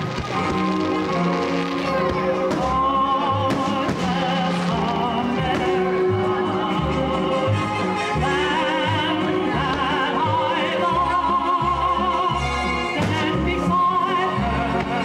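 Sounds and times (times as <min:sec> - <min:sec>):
orchestral music: 0:00.0 - 0:15.0
operatic singing voice: 0:01.9 - 0:15.0.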